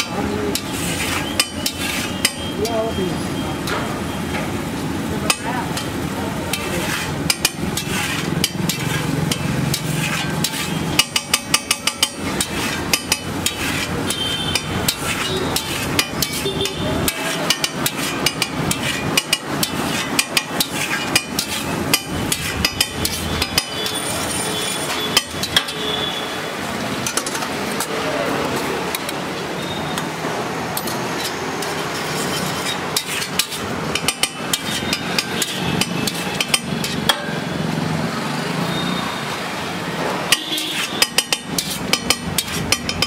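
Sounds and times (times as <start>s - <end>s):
metal spatula scraping on griddle: 0.0s - 3.0s, 3.6s - 29.7s, 30.7s - 37.5s, 40.3s - 43.0s.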